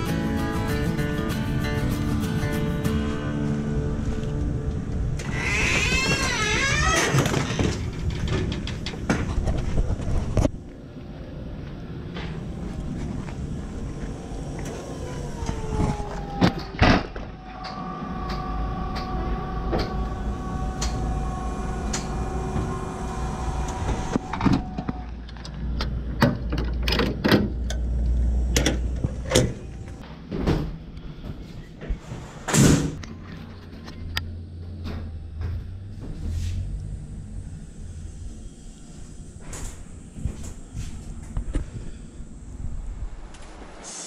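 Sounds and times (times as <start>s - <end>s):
falling whine: 0.0s - 26.0s, 33.0s - 44.0s
low steady rumble: 0.0s - 30.0s, 33.0s - 43.8s.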